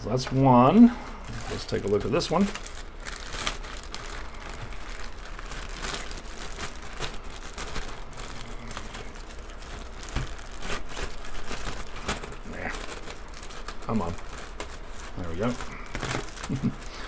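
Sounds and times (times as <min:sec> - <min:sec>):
plastic bag crinkling: 0:00.5 - 0:17.0.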